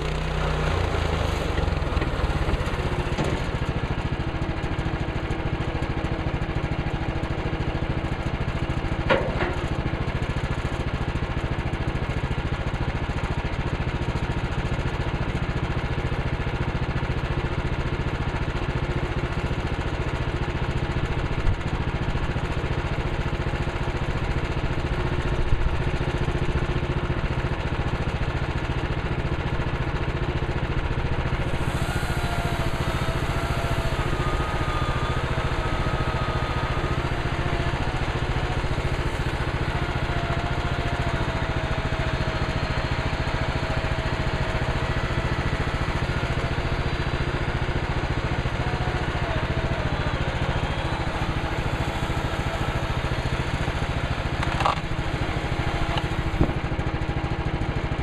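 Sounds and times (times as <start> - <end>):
gas engine running: 0.0 - 58.0.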